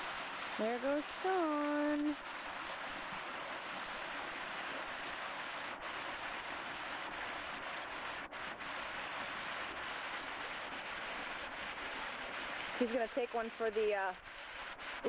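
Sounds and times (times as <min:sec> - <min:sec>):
waterfall splashing: 0:00.0 - 0:15.0.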